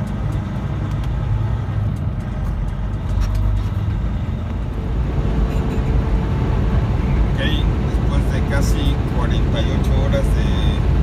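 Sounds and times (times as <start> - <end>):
diesel engine droning: 0.0 - 11.0
road noise: 0.0 - 11.0.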